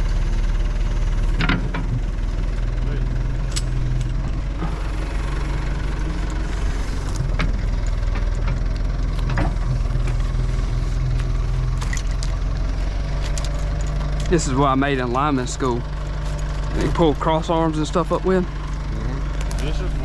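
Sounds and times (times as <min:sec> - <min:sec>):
backhoe engine chugging: 0:00.0 - 0:20.0.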